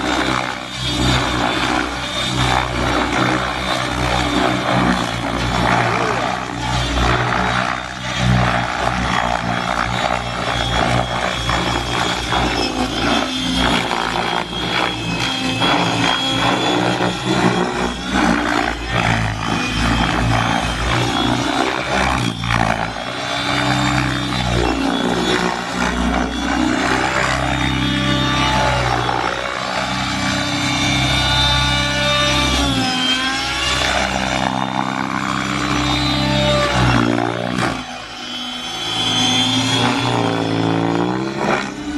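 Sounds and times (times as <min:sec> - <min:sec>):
helicopter rotor blade noise: 0:00.0 - 0:41.9
steady high-pitched whine: 0:00.0 - 0:41.9.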